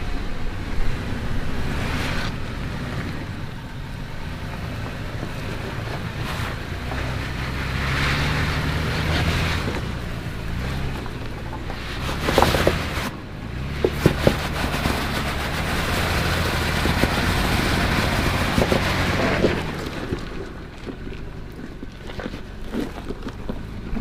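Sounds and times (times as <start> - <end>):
car engine running at low speed: 0.0 - 24.0.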